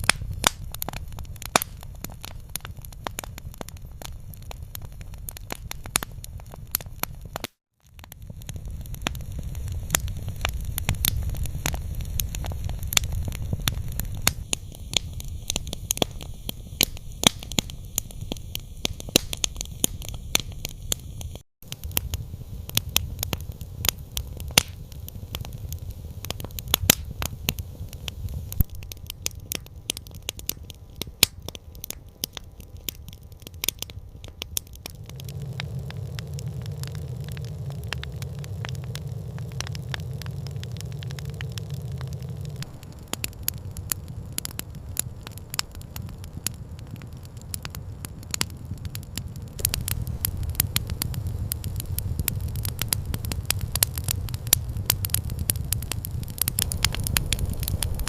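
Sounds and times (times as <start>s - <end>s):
campfire pops and snaps: 0.0s - 58.0s
fire low rumble: 0.0s - 58.0s.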